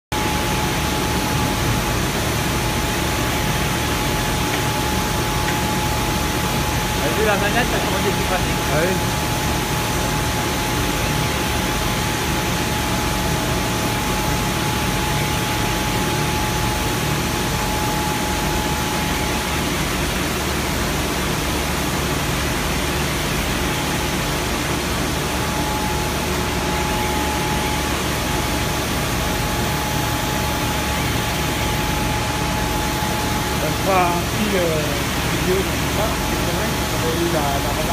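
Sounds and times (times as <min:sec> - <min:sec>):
constant whine: 0:00.1 - 0:37.9
factory machinery hum: 0:00.1 - 0:37.9.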